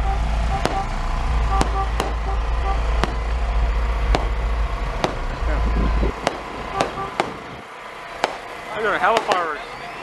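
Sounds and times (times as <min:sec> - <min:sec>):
low rumble: 0:00.0 - 0:08.7
fireworks bangs: 0:00.4 - 0:09.7.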